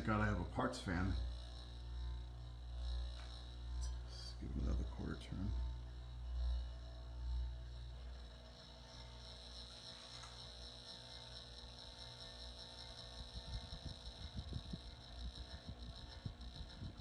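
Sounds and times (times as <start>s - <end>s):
ceiling fan motor hum: 0.0s - 17.0s
low fluttering thumps: 0.0s - 17.0s.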